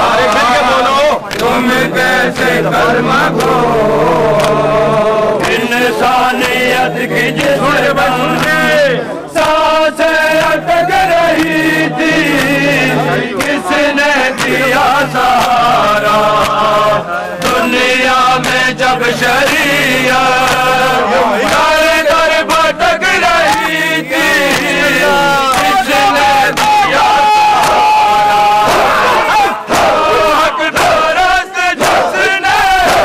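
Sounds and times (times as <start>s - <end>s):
voices chanting melodically: 0.0s - 33.0s.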